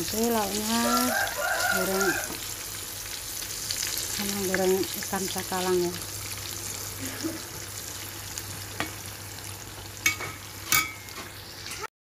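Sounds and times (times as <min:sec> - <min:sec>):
food sizzling in hot oil: 0:00.0 - 0:11.9.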